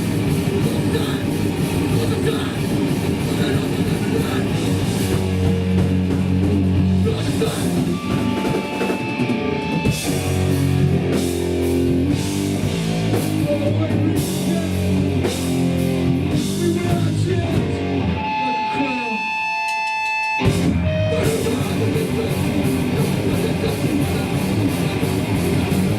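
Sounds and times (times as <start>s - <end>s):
punk band playing live: 0.0s - 25.9s.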